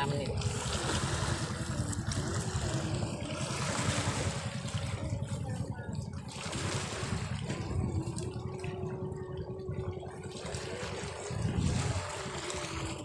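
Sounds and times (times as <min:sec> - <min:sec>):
sea waves washing against rocks: 0:00.0 - 0:13.0
wind rumble on microphone: 0:00.0 - 0:13.0.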